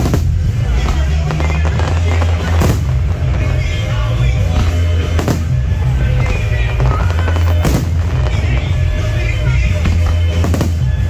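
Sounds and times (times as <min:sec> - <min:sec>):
deep continuous rumble: 0:00.0 - 0:11.0
fireworks bursting: 0:00.0 - 0:11.0
music: 0:00.0 - 0:11.0
sharp bangs: 0:00.0 - 0:11.0.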